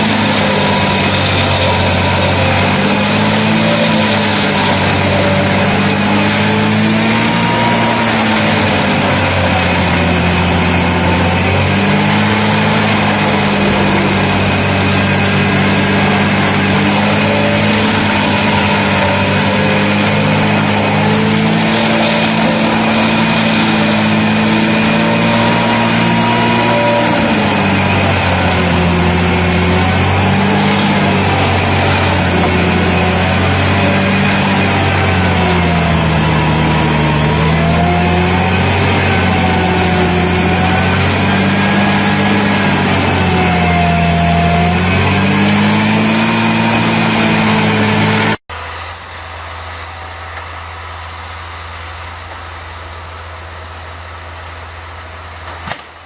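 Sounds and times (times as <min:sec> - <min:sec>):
diesel engine under changing load: 0:00.0 - 0:56.0.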